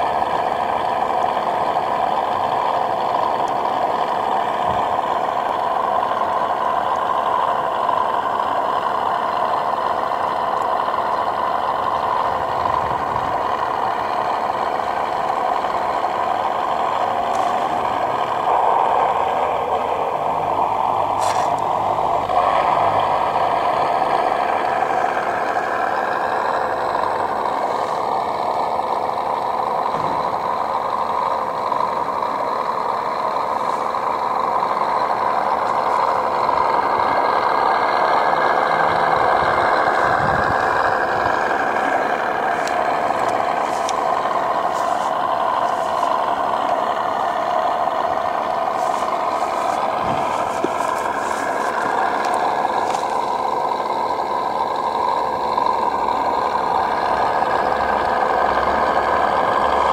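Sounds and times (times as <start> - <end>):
diesel engine idle through speaker: 0.0 - 59.9.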